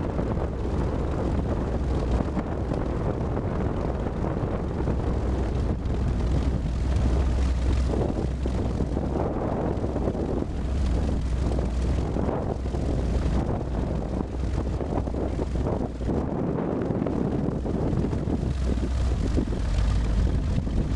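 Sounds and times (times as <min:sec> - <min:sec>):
propeller engine droning: 0:00.0 - 0:20.9
wind buffeting microphone: 0:00.0 - 0:20.9.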